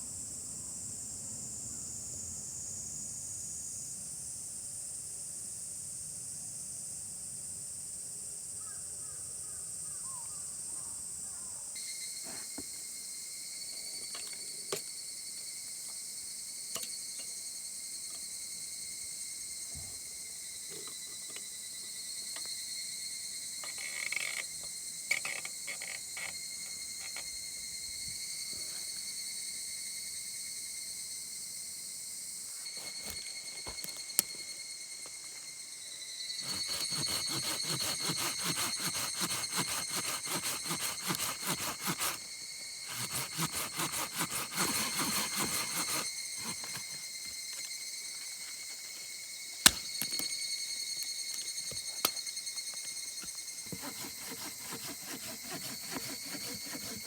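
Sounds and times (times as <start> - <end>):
insects singing: 8.6 - 57.0.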